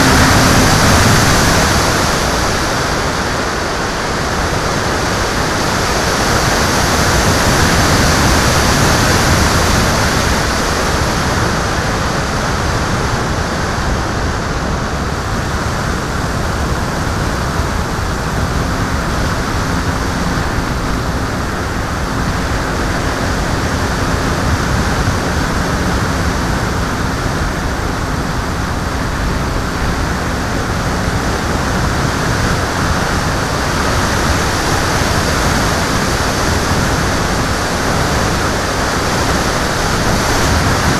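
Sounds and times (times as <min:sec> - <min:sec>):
faint steady hum: 0:00.0 - 0:40.9
wind rushing over microphone: 0:00.0 - 0:40.9.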